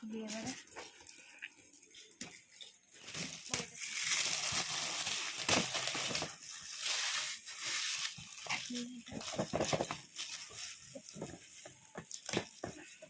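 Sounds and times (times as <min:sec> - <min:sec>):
wrapping paper tearing and crumpling: 0:00.0 - 0:13.0.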